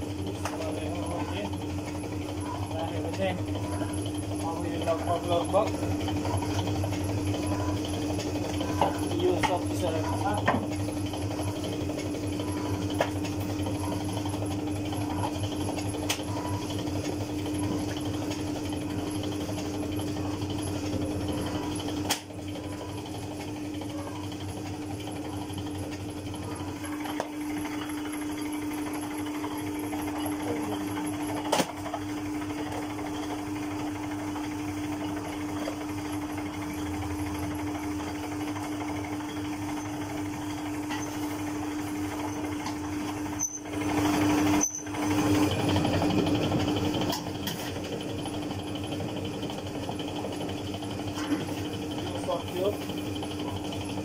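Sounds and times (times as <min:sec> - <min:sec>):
dough roller machine humming: 0:00.0 - 0:54.0.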